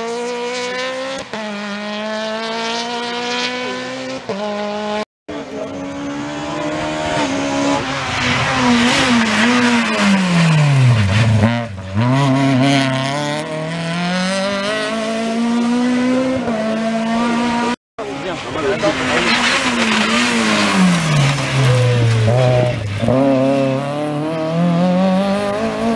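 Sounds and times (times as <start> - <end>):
rally car engine: 0.0 - 25.9.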